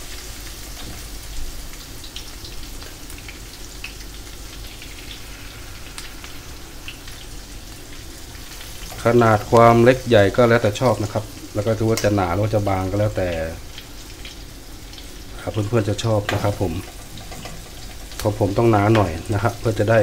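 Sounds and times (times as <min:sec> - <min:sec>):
egg frying in hot oil: 0:00.0 - 0:20.0.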